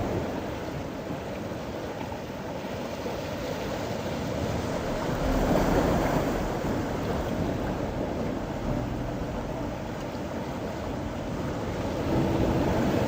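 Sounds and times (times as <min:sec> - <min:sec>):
sea waves washing against rocks: 0:00.0 - 0:13.0.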